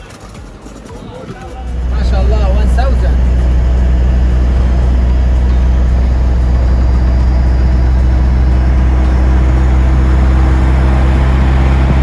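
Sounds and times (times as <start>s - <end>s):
vehicle engine hum and road noise: 0.0s - 12.0s.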